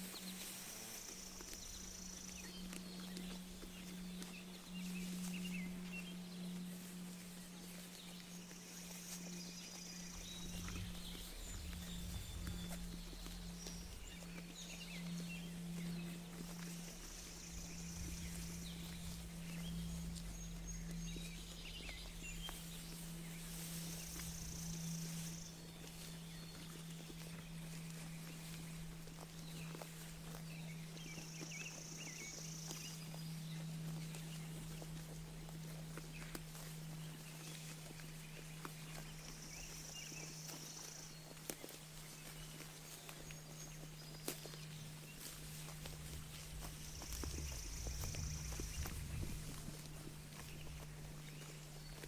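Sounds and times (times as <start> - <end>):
birds chirping: 0.0 - 52.0
low hum: 0.0 - 52.0
sheep chewing grass: 0.0 - 52.0.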